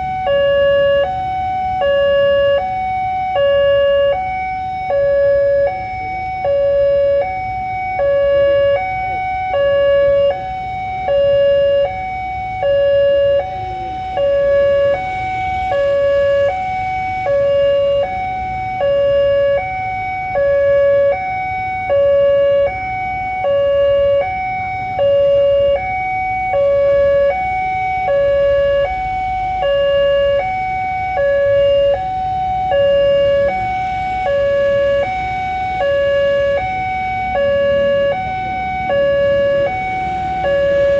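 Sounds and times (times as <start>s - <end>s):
level crossing two-tone alarm: 0.0s - 40.9s.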